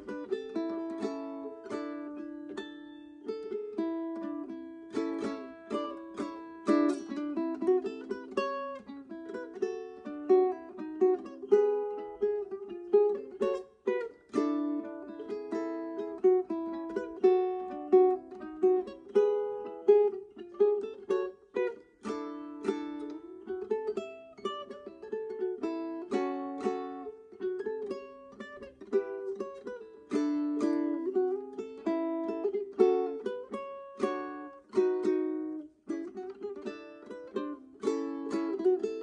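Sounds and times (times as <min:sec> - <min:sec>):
fingerstyle ukulele: 0:00.0 - 0:39.0.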